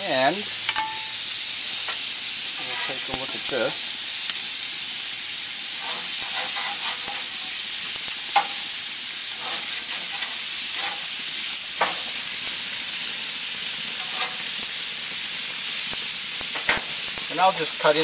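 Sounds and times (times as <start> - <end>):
chicken sizzling on grill: 0.0 - 18.0.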